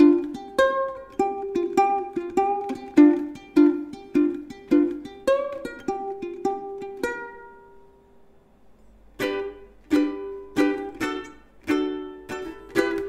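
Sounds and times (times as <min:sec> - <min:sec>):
ukulele strumming chords: 0:00.0 - 0:08.2, 0:09.2 - 0:13.0.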